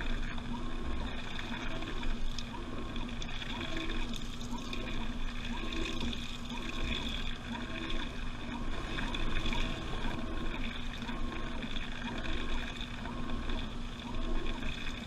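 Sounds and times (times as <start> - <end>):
washing machine motor whine: 0.0 - 15.0
water sloshing and gurgling: 0.0 - 15.0.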